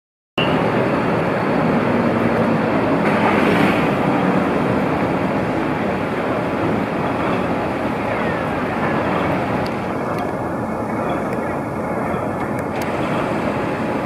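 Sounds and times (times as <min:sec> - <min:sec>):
bus diesel engine running: 0:00.4 - 0:14.0
street traffic: 0:00.4 - 0:14.0.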